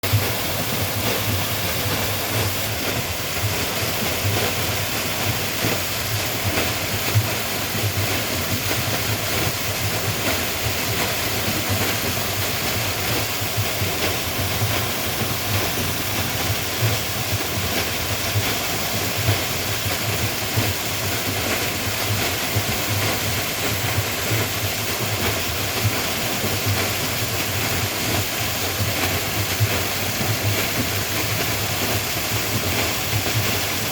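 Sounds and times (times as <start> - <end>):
steady broadband rushing noise: 0.0 - 33.9.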